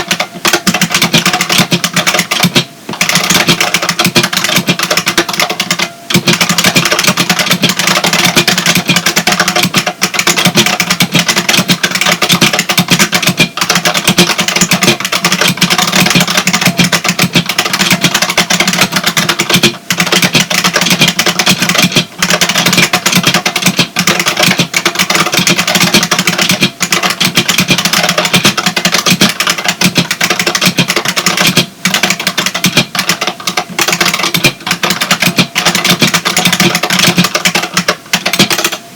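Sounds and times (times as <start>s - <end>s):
mechanical keyboard typing clicks: 0.0s - 38.8s.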